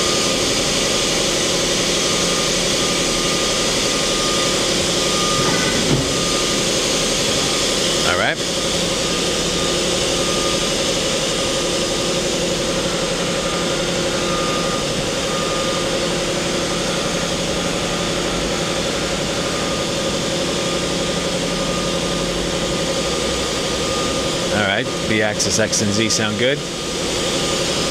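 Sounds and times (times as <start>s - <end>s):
high machine tone: 0.0s - 27.9s
machine tool humming: 0.0s - 27.9s.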